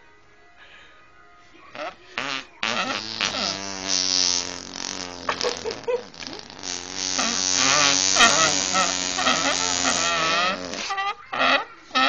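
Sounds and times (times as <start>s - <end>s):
straws blown fart-like noise: 1.7s - 12.0s.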